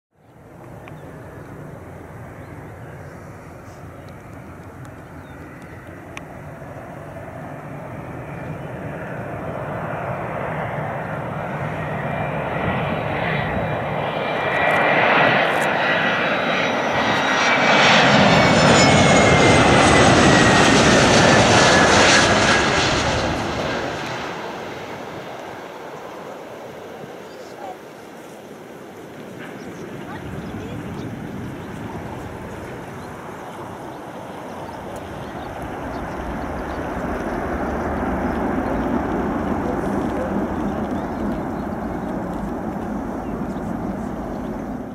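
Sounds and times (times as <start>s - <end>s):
high jet engine whine: 0.2s - 44.9s
jet engines on approach: 0.2s - 44.9s.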